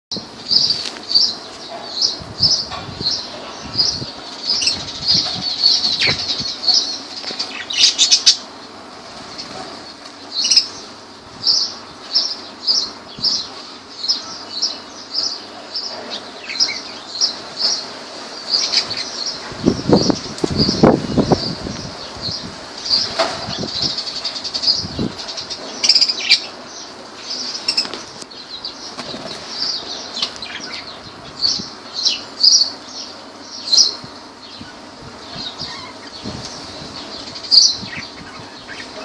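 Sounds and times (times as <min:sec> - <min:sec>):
lovebirds chirping: 0:00.1 - 0:39.0.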